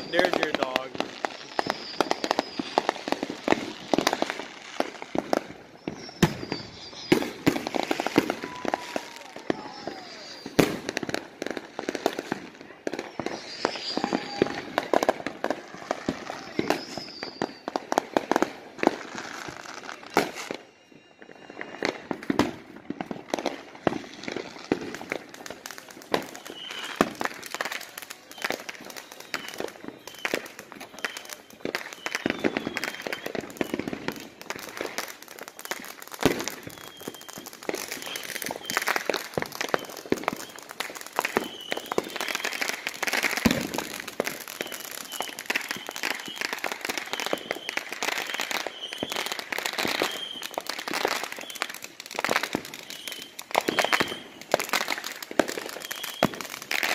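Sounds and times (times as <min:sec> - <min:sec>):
fireworks popping and crackling: 0:00.0 - 0:56.9.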